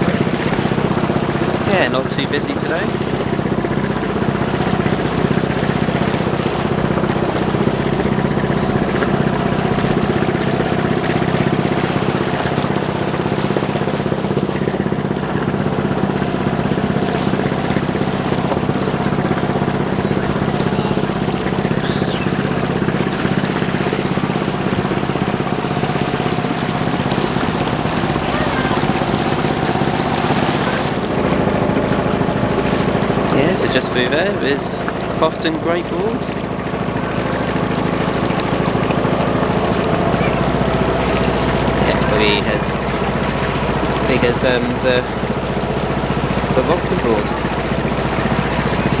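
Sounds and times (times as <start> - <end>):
motor boat engine humming: 0.0 - 49.0
water splashing along hull: 0.0 - 49.0.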